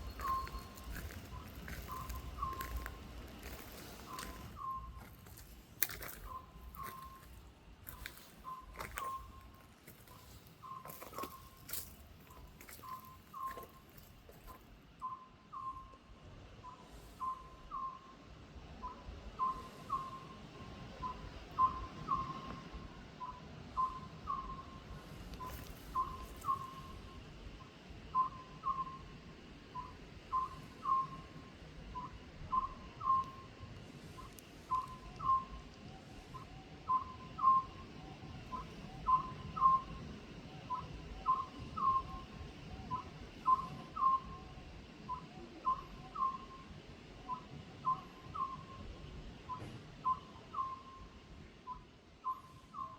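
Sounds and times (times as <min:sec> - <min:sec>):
owl whistled hoots: 0:00.0 - 0:13.8, 0:15.0 - 0:15.9, 0:16.6 - 0:27.3, 0:28.1 - 0:52.9.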